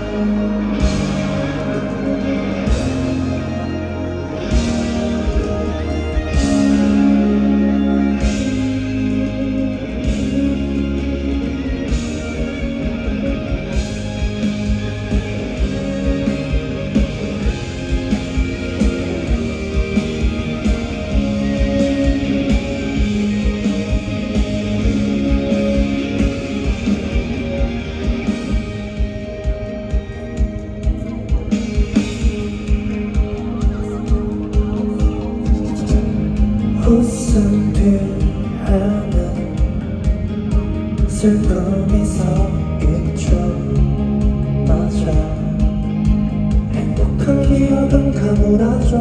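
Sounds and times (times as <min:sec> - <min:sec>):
bass guitar: 0:00.0 - 0:49.0
drums beating: 0:00.0 - 0:49.0
electric guitar chords: 0:00.0 - 0:49.0.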